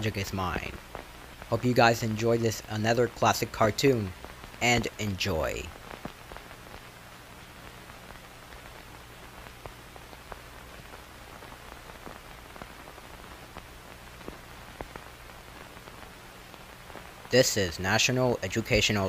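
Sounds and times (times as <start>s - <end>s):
crackles and pops: 0.0s - 19.0s
film soundtrack hiss: 0.0s - 19.0s.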